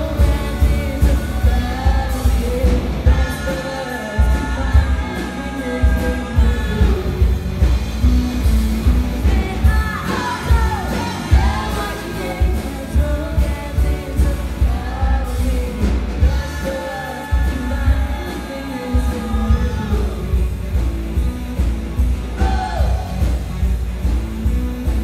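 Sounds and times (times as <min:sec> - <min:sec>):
female lead vocal: 0:00.0 - 0:23.7
live rock band playing: 0:00.0 - 0:25.0.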